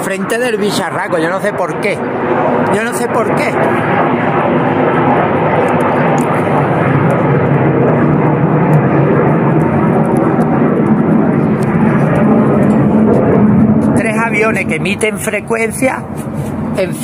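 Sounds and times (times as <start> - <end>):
jets flying overhead: 0.0 - 17.0.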